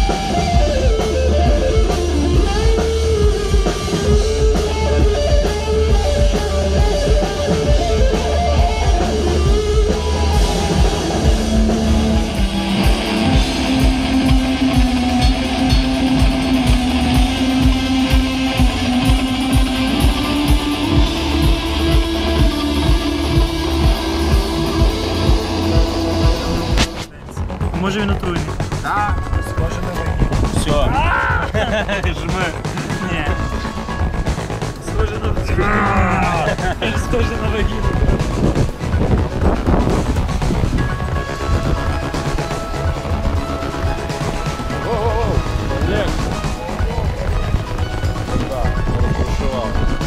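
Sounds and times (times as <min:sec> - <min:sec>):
rock band playing live: 0:00.0 - 0:50.0.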